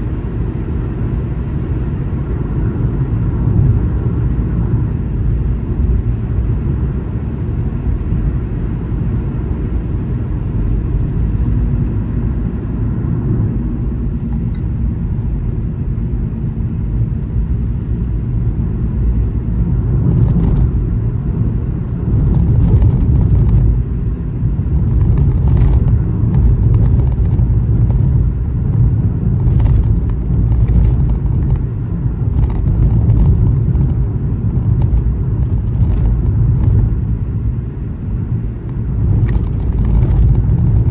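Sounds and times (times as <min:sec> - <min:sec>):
car road noise rumble: 0:00.0 - 0:40.9.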